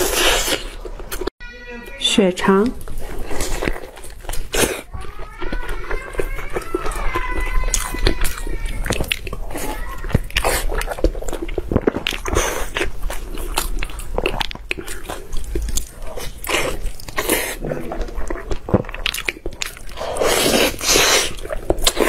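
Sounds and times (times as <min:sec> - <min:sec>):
wet biting and chewing: 0:00.0 - 0:01.3, 0:02.8 - 0:22.0.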